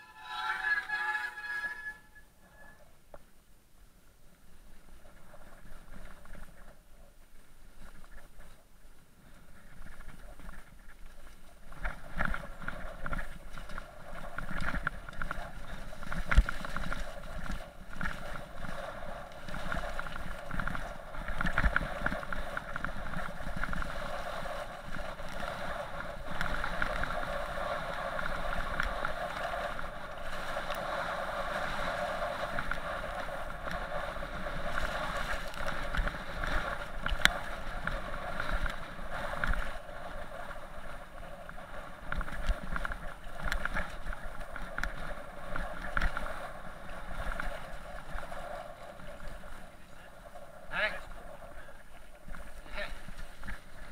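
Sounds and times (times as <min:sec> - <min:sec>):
bike tyres rattling on rough track: 0:04.6 - 0:53.9
wind on microphone: 0:09.3 - 0:53.9.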